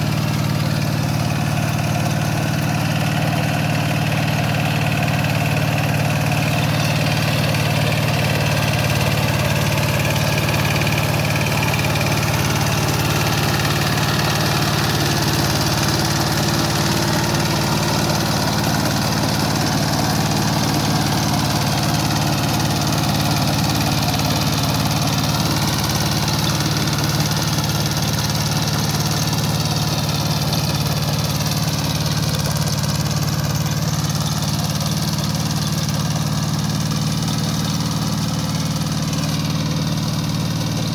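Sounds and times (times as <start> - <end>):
diesel tiller engine running: 0.0 - 40.9.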